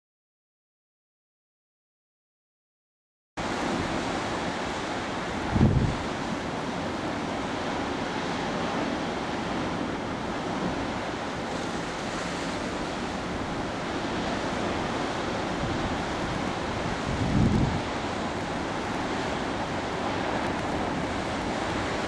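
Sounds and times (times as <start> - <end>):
surf breaking among rocks: 3.4 - 22.0.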